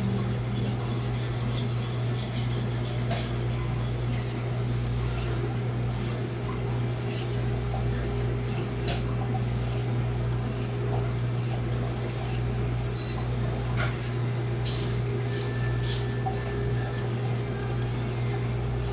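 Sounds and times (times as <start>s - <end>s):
knife scraping on whetstone: 0.0s - 4.4s, 5.0s - 6.2s, 6.8s - 7.3s, 8.7s - 13.2s, 13.8s - 18.9s
steady low hum: 0.0s - 18.9s.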